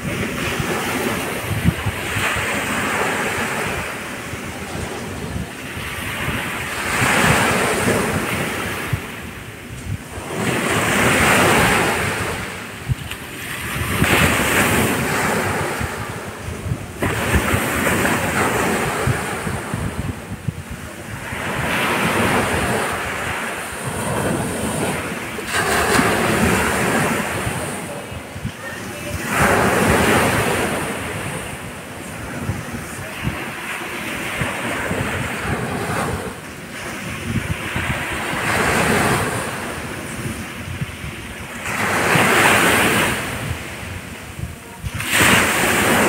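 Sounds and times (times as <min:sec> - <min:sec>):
small waves breaking on beach: 0:00.0 - 0:46.0.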